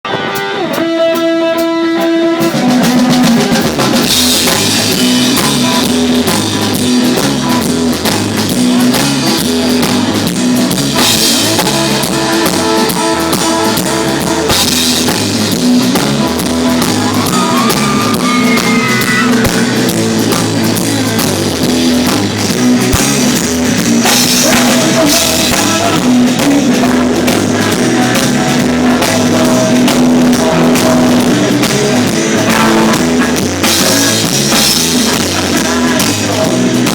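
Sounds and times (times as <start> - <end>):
bending electric guitar line: 0.0 - 36.9
rock band playing: 0.0 - 36.9
drum kit beat: 0.1 - 36.9.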